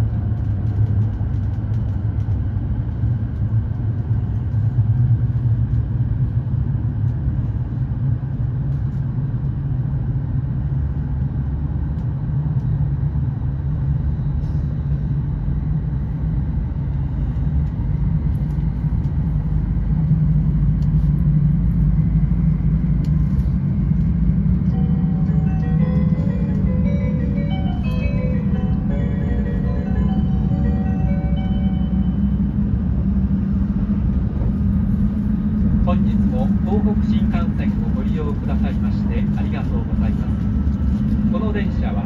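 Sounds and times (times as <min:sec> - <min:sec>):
train rumbling at speed: 0:00.0 - 0:42.0.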